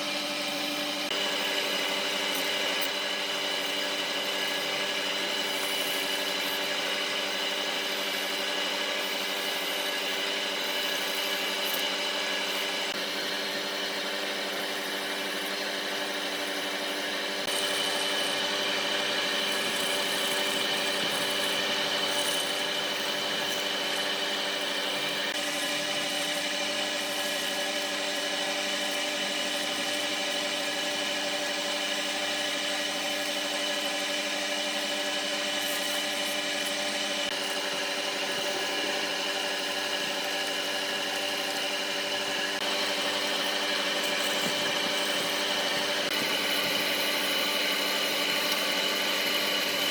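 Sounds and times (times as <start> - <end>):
wood being cut hiss: 0.0 - 49.9
woodworking machine motor hum: 0.0 - 49.9.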